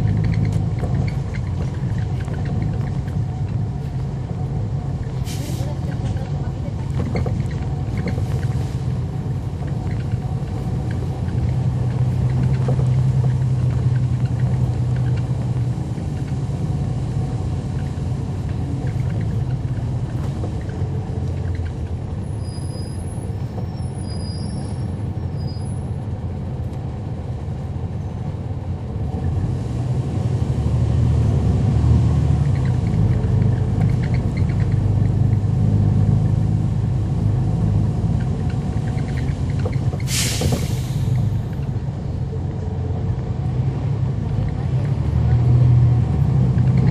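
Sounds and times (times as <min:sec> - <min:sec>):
bus engine droning: 0:00.0 - 0:46.9.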